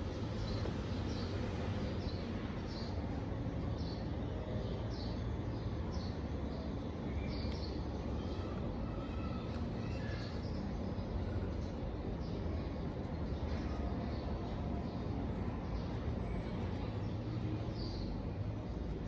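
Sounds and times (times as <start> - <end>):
low background rumble: 0.0 - 19.0
small bird chirping: 0.0 - 19.0.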